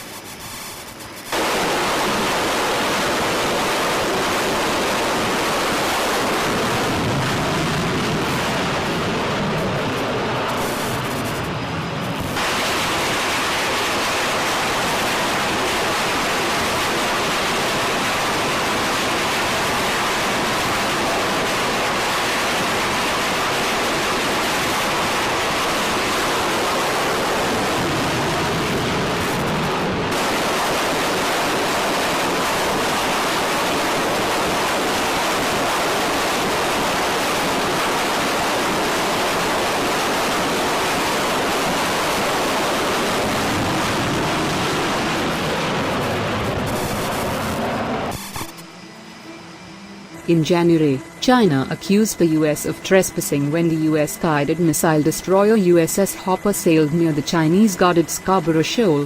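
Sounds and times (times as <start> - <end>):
loud steady rushing noise: 0.0 - 59.0.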